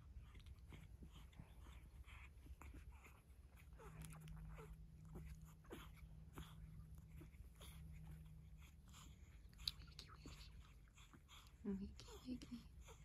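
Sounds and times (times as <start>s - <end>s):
low steady hum: 0.0s - 13.0s
puppy snuffling and squeaking: 0.0s - 13.0s.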